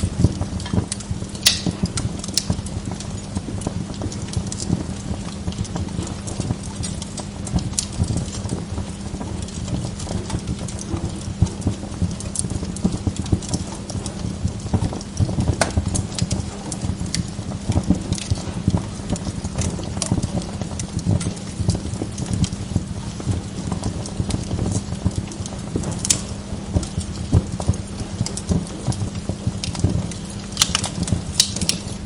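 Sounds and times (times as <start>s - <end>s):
log fire crackling: 0.0s - 32.0s.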